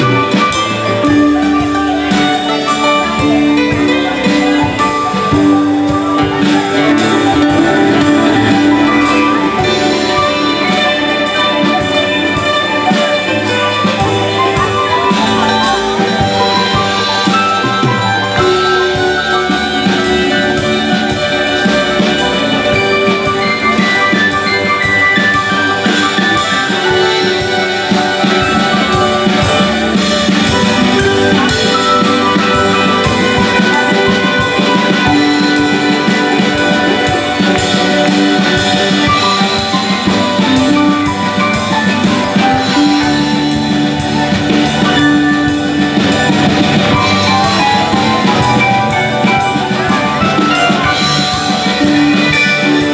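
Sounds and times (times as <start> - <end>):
drums: 0.0 - 52.9
guitars: 0.0 - 52.9
keyboard: 0.0 - 52.9
saxophone: 0.0 - 52.9.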